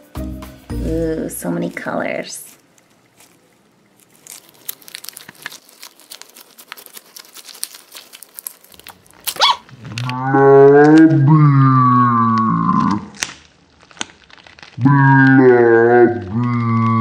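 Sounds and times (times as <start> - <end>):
squishing clicks and crackles: 1.5 - 17.0.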